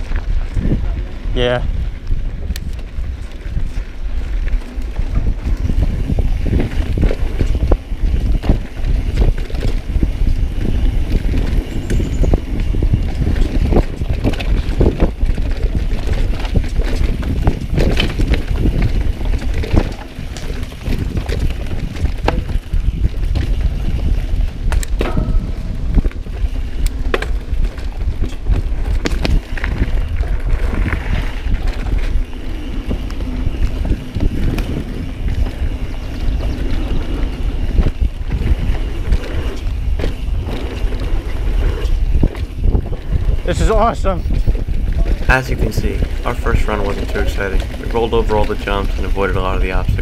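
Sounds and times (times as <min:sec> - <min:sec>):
bike chain and frame rattling: 0:00.0 - 0:50.0
tyres rolling over dirt trail: 0:00.0 - 0:50.0
wind buffeting microphone: 0:00.0 - 0:50.0.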